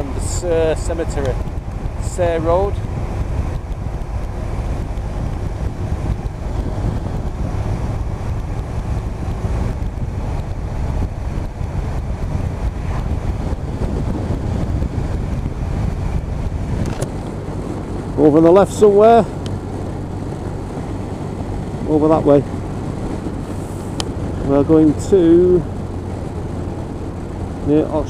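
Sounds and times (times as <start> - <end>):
motorcycle engine: 0.0 - 28.0
road noise: 0.0 - 28.0
wind rush on microphone: 0.0 - 28.0.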